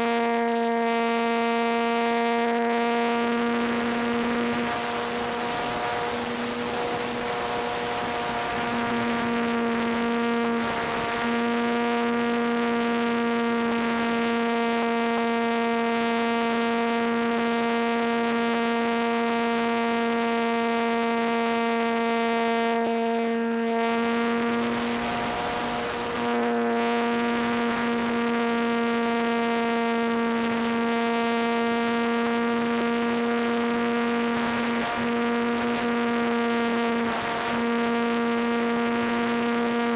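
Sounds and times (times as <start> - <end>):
model plane electric motor whine: 0.0 - 39.9.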